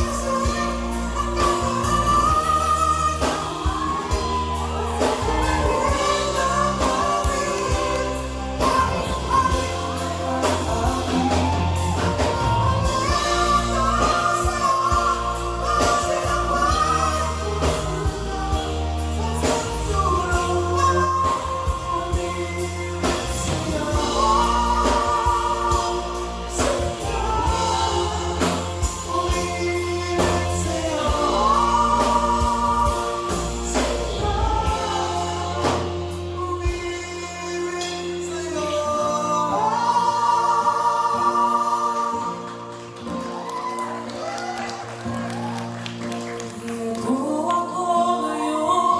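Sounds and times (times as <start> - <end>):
band playing with beat and bass: 0.0 - 48.2
person singing: 0.0 - 48.9.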